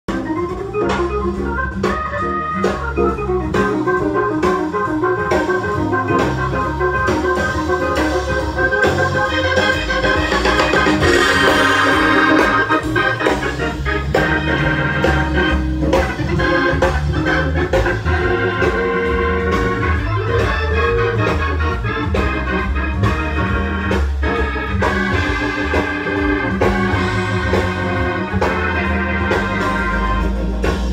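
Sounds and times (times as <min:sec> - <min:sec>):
keyboard-led music with bass and beat: 0:00.1 - 0:30.9.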